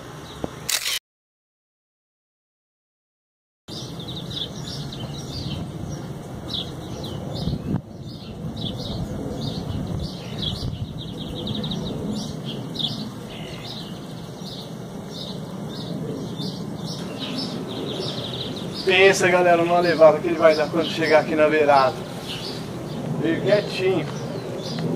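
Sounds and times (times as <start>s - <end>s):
birds chirping: 3.7s - 24.9s
steady low rumble: 3.8s - 24.9s.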